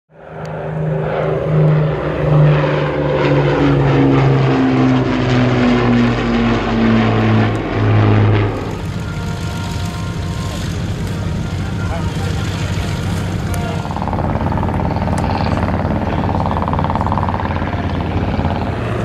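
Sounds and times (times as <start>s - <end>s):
propeller aircraft flying past: 0.1s - 19.0s.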